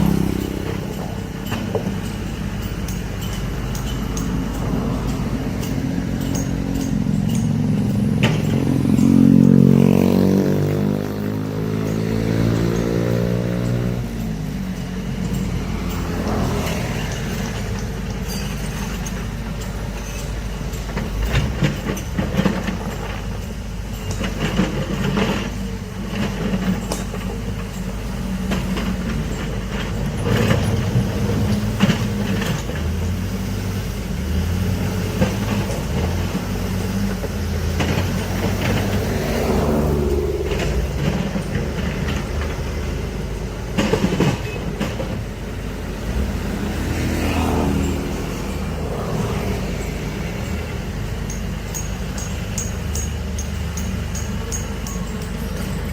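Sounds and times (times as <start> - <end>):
metal clanks and knocks: 0.0 - 33.3, 34.8 - 55.9
excavator diesel engine running: 0.0 - 55.9.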